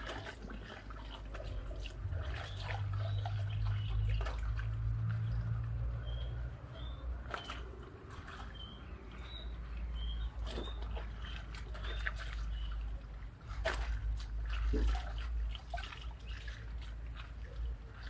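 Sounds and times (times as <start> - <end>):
water sloshing and splashing in basin: 0.0 - 18.0.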